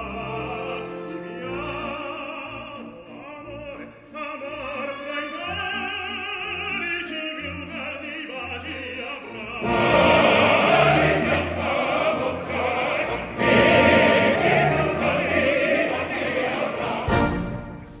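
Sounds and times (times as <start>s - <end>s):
choir singing: 0.0s - 18.0s
orchestra playing: 0.0s - 18.0s.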